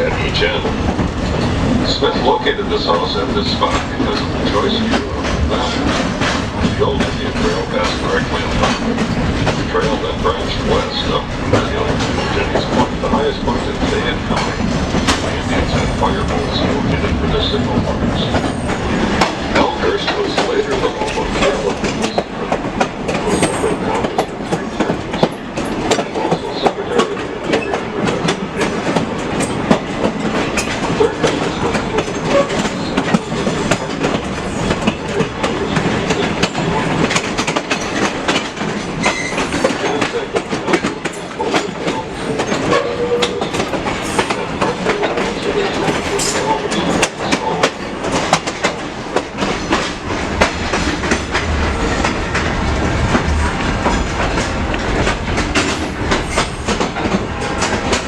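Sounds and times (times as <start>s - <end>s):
train wheels rumbling: 0.0s - 58.0s
wheels clicking over rail joints: 0.0s - 58.0s.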